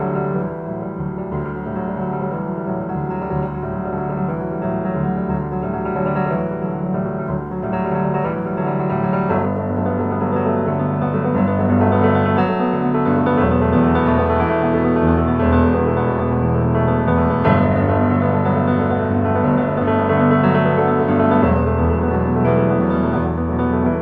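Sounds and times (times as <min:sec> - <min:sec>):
slow piano music: 0:00.0 - 0:24.0.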